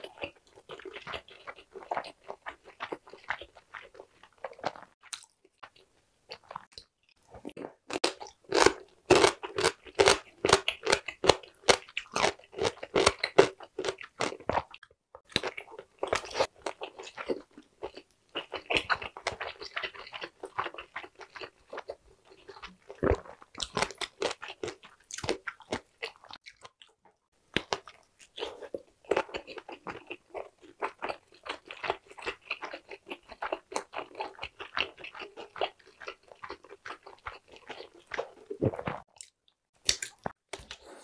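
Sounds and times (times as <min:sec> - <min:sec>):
wet crunchy chewing: 0:00.0 - 0:41.0.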